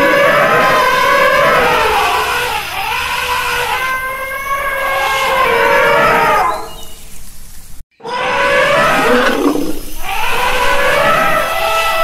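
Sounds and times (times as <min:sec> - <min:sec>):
elephant trumpeting: 0:00.0 - 0:06.8, 0:08.0 - 0:12.0.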